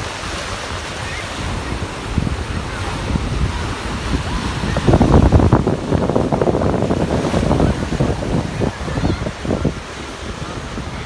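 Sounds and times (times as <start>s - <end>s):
sea surf breaking: 0.0s - 11.0s
wind buffeting microphone: 0.0s - 11.0s.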